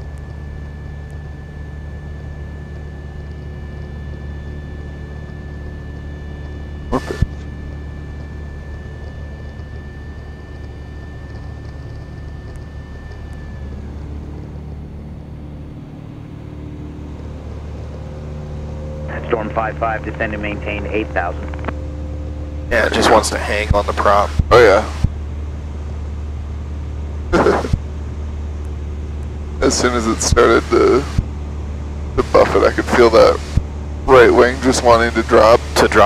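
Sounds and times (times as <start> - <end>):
propeller plane engine in cabin: 0.0 - 36.0.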